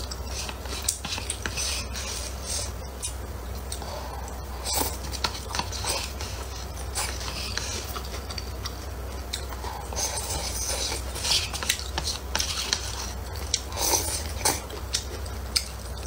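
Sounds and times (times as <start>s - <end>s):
chewing: 3.0s - 16.0s.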